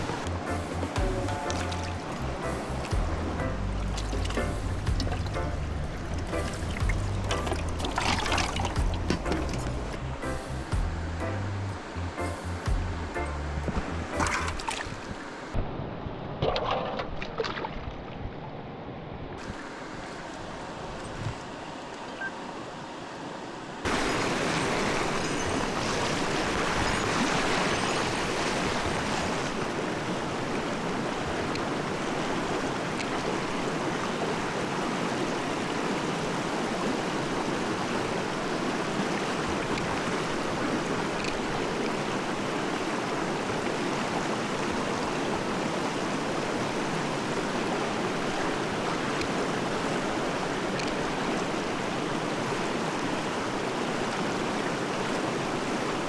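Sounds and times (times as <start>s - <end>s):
stream water rushing: 0.0s - 15.6s, 19.4s - 56.0s.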